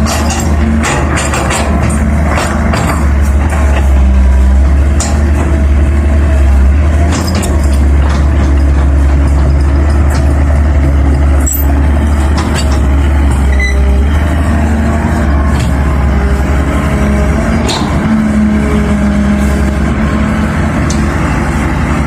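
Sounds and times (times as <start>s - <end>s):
heavy diesel engine droning: 0.0s - 22.0s.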